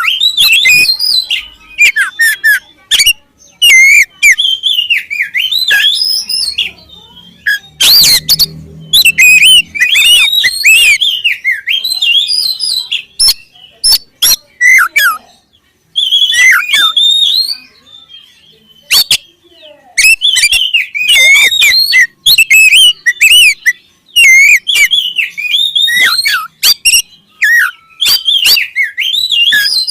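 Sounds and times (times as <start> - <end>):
bird singing whistled phrases: 0.0 - 29.9.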